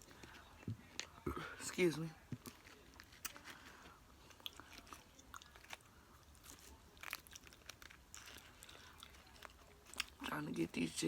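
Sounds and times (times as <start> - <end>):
chewing crunchy chips: 0.0 - 11.0.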